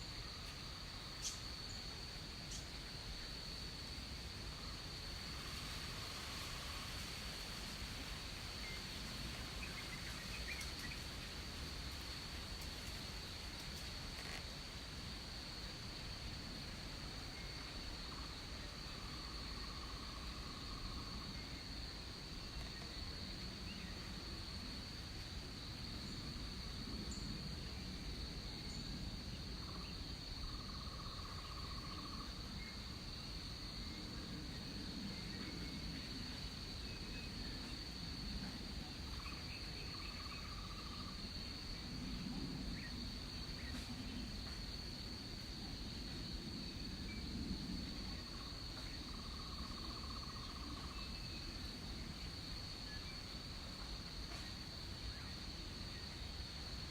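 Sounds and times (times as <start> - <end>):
background hiss: 0.0 - 56.9
high insect drone: 0.0 - 56.9.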